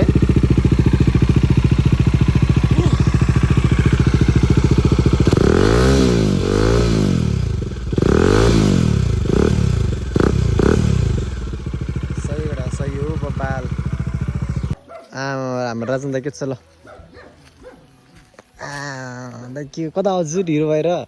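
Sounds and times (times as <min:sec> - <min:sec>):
motorcycle idling and revving: 0:00.0 - 0:19.7.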